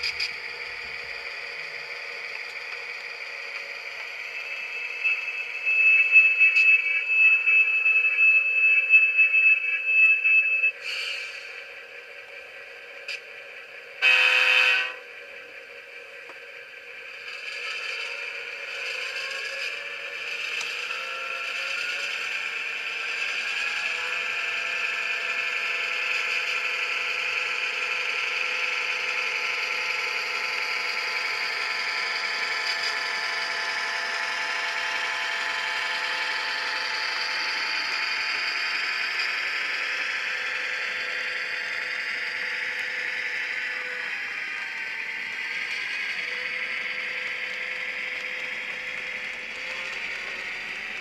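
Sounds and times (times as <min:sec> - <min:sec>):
model locomotive diesel engine sound: 0:00.0 - 0:51.0.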